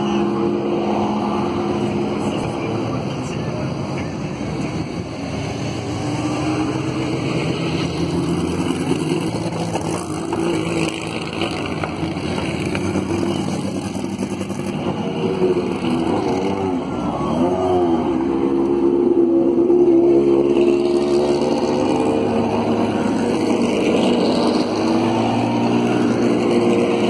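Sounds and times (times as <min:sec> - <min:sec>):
racing cars driving slowly past: 0:00.0 - 0:27.0.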